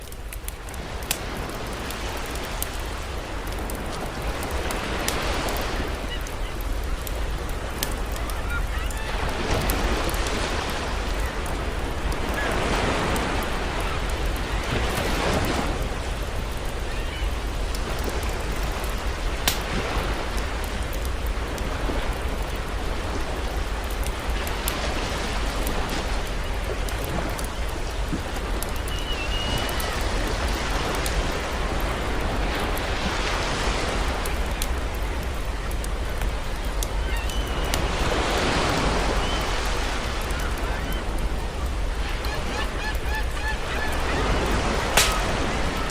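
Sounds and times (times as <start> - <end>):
ocean surf washing in: 0.0 - 42.8, 43.7 - 45.9
campfire crackling: 0.0 - 45.9
sea waves: 0.0 - 45.9.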